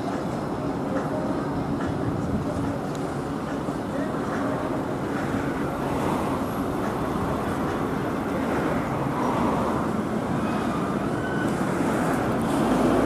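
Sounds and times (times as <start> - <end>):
traffic rumble: 0.0 - 13.0
trams running on track: 0.0 - 13.0.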